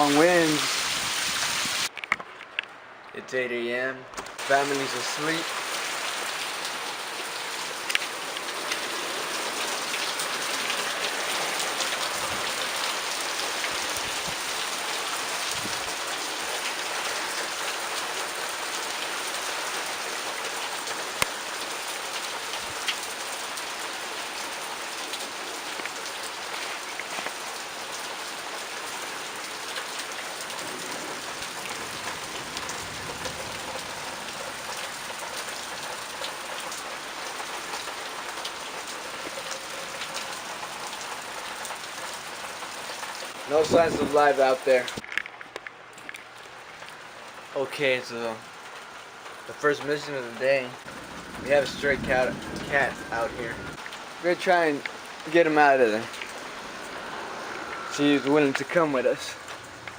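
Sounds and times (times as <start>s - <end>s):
heavy rain pouring: 0.0s - 1.9s, 4.4s - 45.0s, 46.4s - 59.9s.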